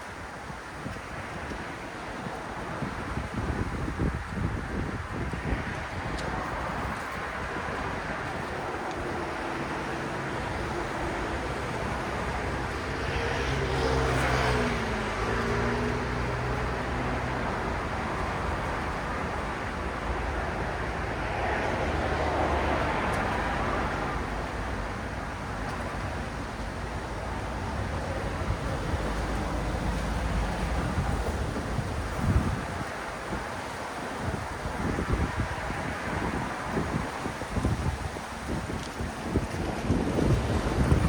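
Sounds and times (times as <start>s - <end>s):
city road traffic: 0.0s - 41.0s.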